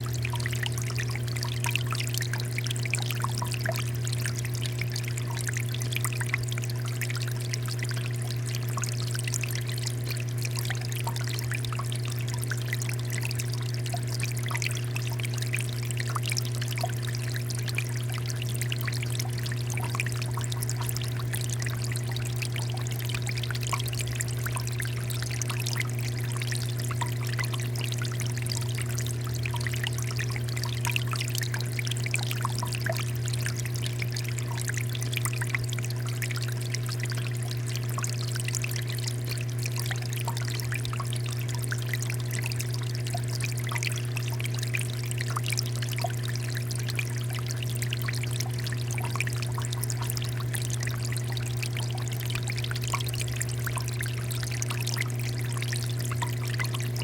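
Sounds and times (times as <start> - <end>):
constant low hum: 0.0 - 57.0
water fountain flowing: 0.0 - 57.0.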